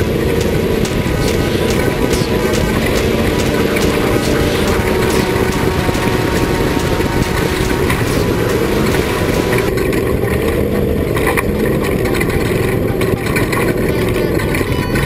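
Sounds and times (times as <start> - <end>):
race vehicle engine running: 0.0 - 15.0.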